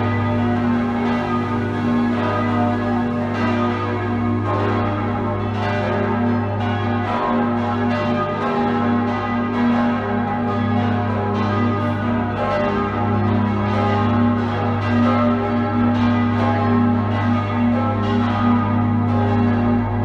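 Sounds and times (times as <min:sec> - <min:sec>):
church bells ringing in a peal: 0:00.0 - 0:20.0.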